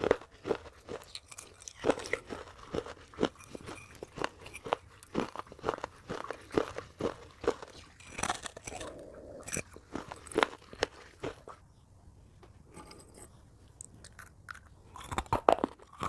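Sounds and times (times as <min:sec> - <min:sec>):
clay pieces crunching when chewed: 0:00.0 - 0:11.6, 0:13.6 - 0:16.0.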